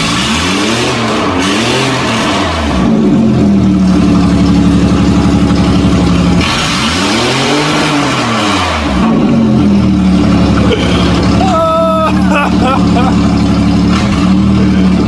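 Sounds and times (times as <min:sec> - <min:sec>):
loud engine idling and revving: 0:00.0 - 0:15.0.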